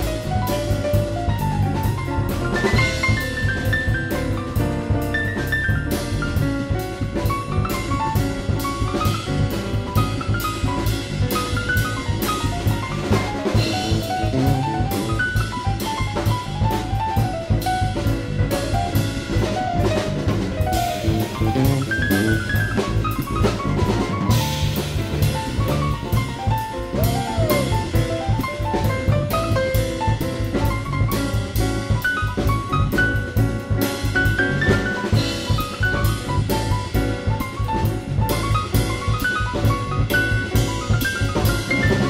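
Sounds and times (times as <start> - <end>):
drum kit beat: 0.0 - 42.0
instrumental music: 0.0 - 42.0.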